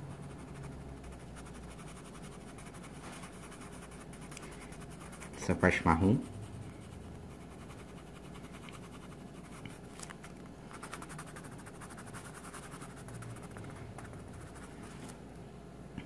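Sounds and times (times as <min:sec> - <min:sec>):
pencil scratching on paper: 0:00.0 - 0:09.8, 0:10.7 - 0:15.1.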